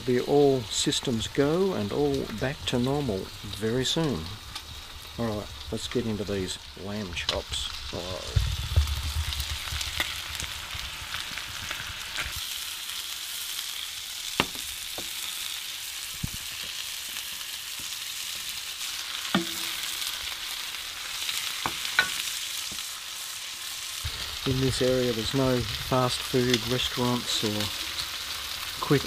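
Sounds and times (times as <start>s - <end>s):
meat sizzling on hotplate: 0.0s - 29.0s.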